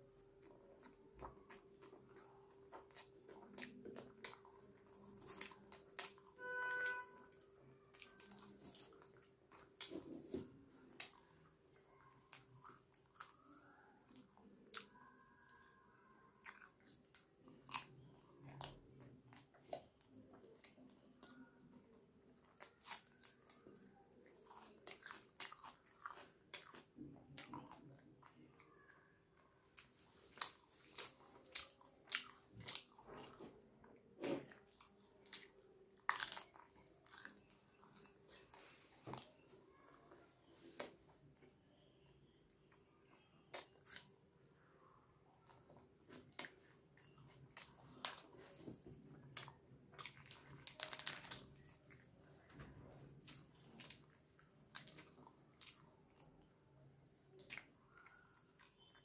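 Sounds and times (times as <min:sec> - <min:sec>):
person chewing and crunching food: 0:00.0 - 0:59.0.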